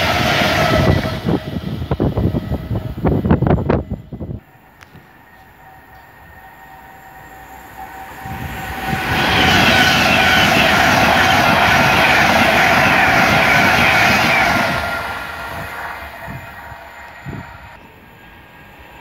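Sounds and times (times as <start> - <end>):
high-speed train passing: 0.0 - 19.0
steady high tone: 0.0 - 19.0.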